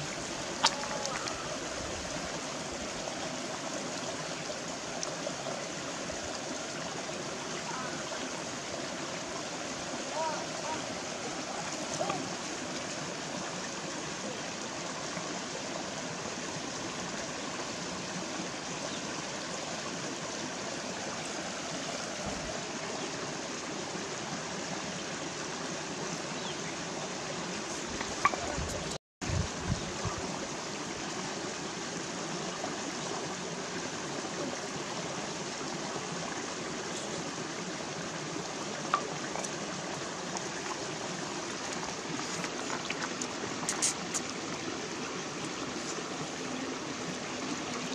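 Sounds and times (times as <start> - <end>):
stream flowing over stones: 0.0 - 47.9.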